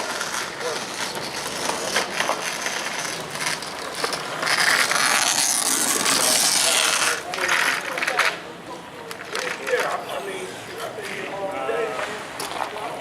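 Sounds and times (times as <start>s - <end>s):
longboard wheels rolling on pavement: 0.0s - 13.0s.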